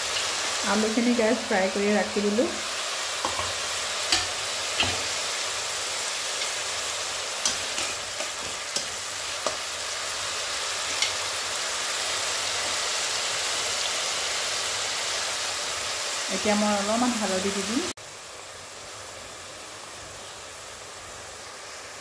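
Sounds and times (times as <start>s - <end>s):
paste sizzling in oil: 0.0s - 22.0s.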